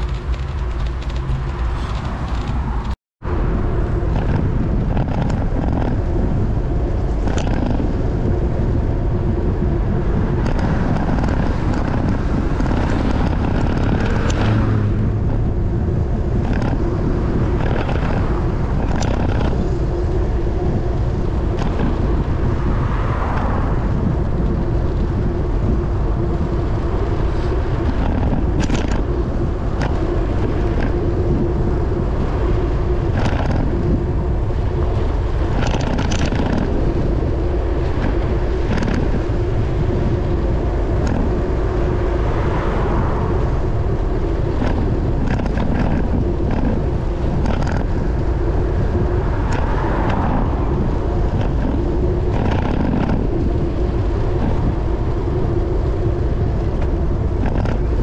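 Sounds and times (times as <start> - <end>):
bicycle road noise: 0.0 - 58.0
bicycle ticks and rattles: 0.0 - 58.0
wind on microphone: 0.0 - 58.0.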